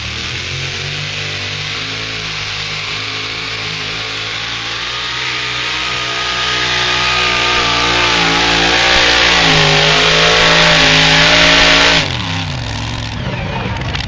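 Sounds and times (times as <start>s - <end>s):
tractor engine at full throttle: 0.0s - 14.0s.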